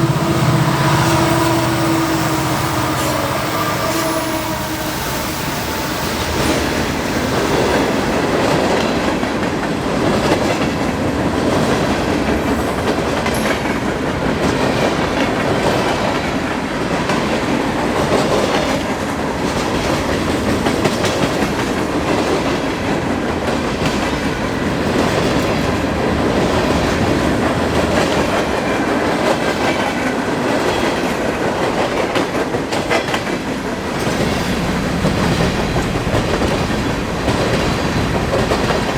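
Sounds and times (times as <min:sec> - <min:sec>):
train wheels clacking over rails: 0:00.0 - 0:38.9.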